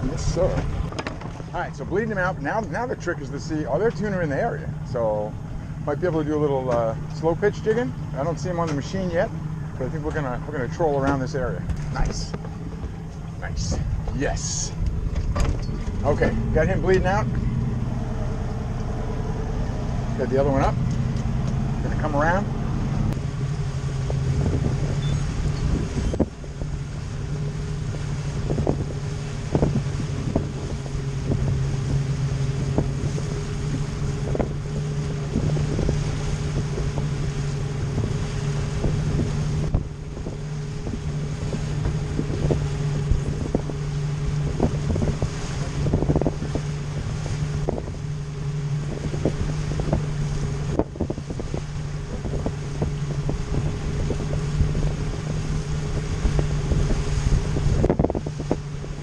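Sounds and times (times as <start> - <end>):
hull knocking on waves: 0.0 - 3.0, 10.9 - 20.0, 20.7 - 59.0
outboard motor droning: 0.0 - 59.0
wind buffeting microphone: 0.0 - 59.0.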